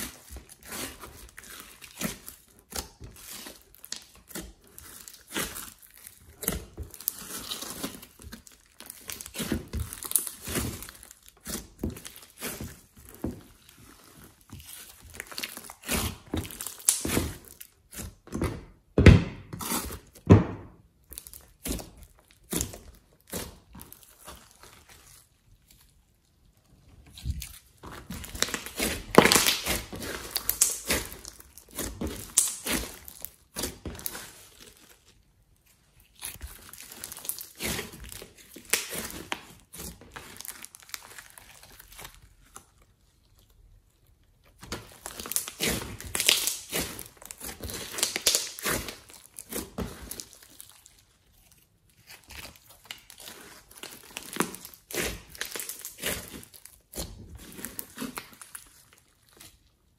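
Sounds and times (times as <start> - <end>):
hands kneading slime: 0.0 - 59.9.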